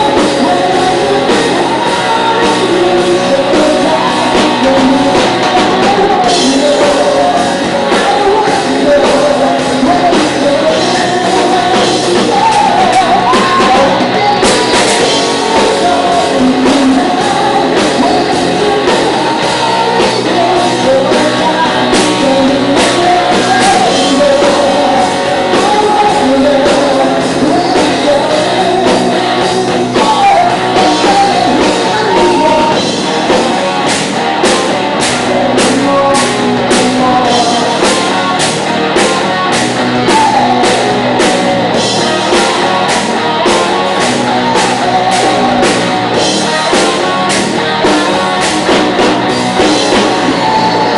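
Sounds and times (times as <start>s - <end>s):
live rock band playing: 0.0s - 50.9s
person singing: 0.0s - 50.9s.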